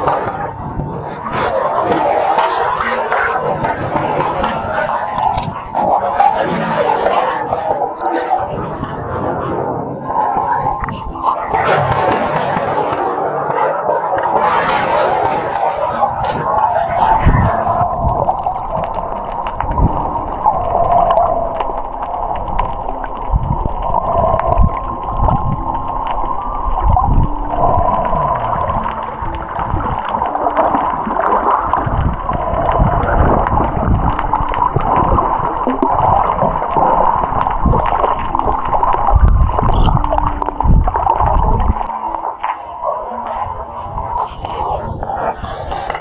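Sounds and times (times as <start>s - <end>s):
underwater gurgling: 0.0s - 46.0s.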